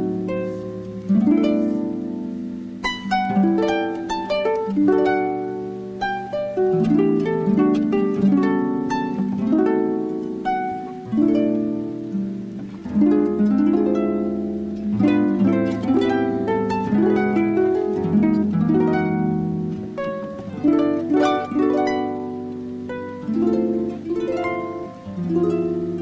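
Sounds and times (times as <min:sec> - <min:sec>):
plucked string instrumental: 0:00.0 - 0:26.0.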